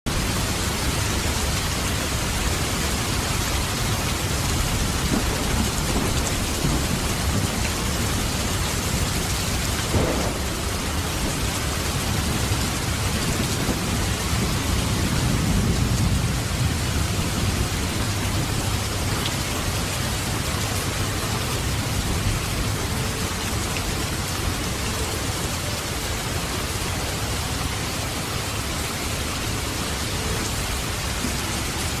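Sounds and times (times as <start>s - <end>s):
rain falling: 0.1s - 32.0s.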